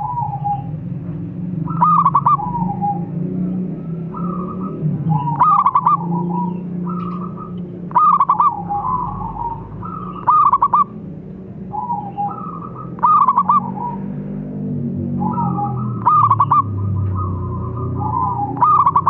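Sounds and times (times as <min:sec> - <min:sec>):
dove cooing: 0:00.0 - 0:14.2, 0:15.0 - 0:19.0.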